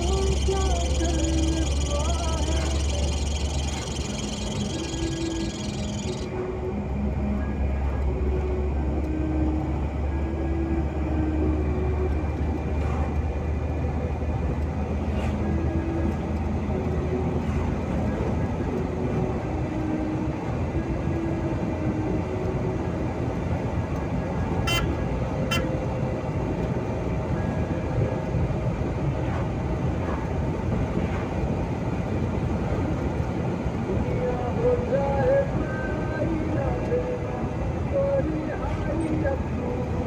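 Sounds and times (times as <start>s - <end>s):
road and engine rumble in cabin: 0.0s - 40.0s.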